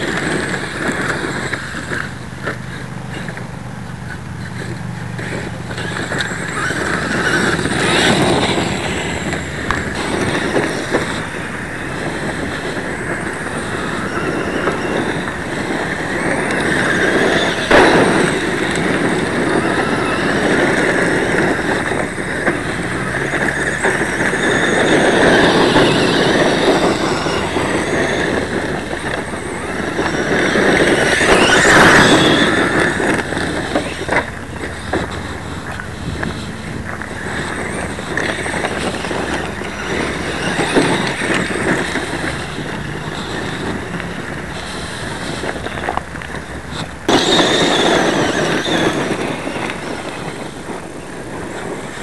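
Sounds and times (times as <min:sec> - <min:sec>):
tyres crunching on gravel: 0:00.0 - 0:50.0
electric motor whining: 0:00.0 - 0:52.0.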